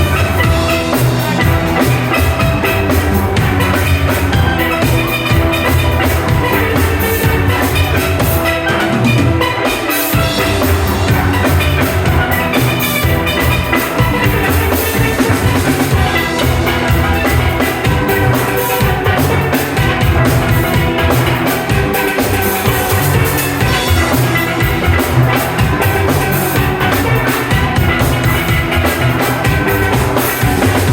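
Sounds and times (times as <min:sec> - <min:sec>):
drum kit beat: 0:00.0 - 0:30.9
steelpans playing melody: 0:00.0 - 0:30.9.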